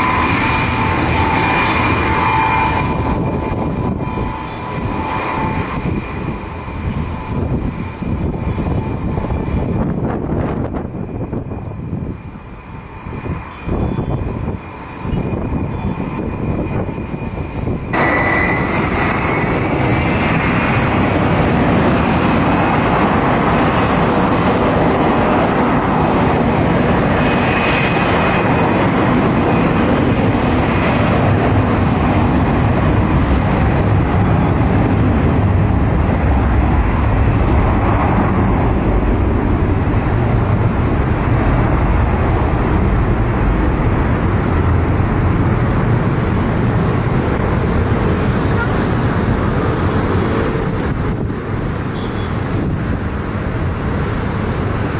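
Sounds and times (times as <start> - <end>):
jet engines whining and roaring: 0.0 - 54.9.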